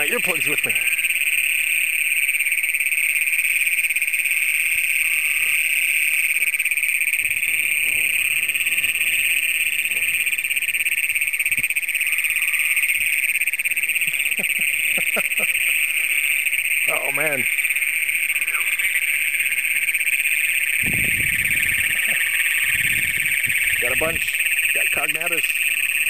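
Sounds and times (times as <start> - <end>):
toads trilling in chorus: 0.0 - 26.0.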